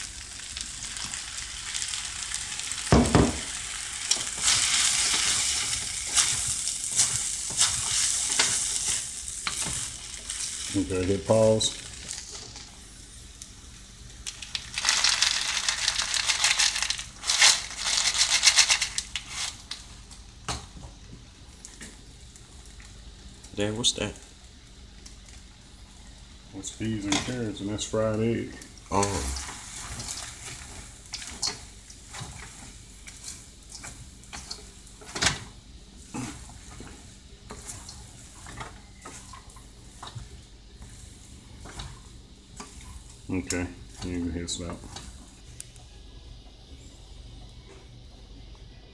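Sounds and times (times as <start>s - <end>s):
vegetables sizzling in a frying pan: 0.0s - 45.6s.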